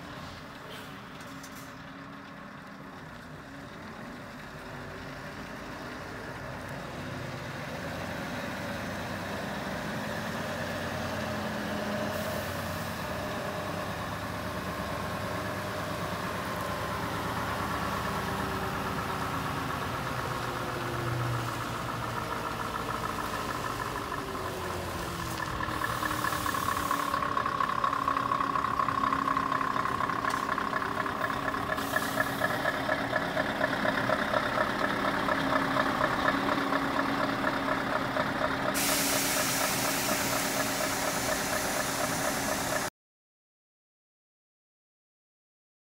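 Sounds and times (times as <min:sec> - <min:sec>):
diesel truck engine: 0:00.0 - 0:42.9.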